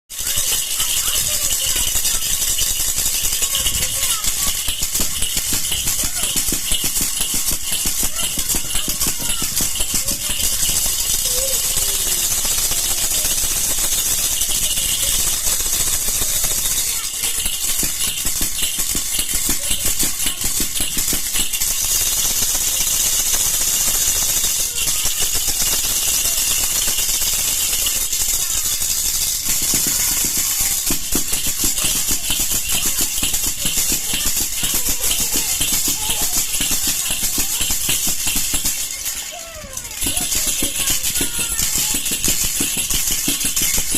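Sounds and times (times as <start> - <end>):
baby rattle shaken: 0.0 - 43.9.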